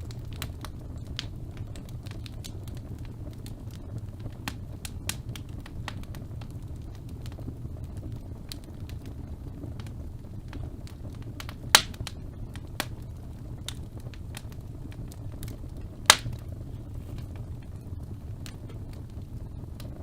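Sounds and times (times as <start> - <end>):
burning wood popping: 0.0 - 20.0
fire flames rumbling: 0.0 - 20.0
wood fire crackling: 0.0 - 20.0.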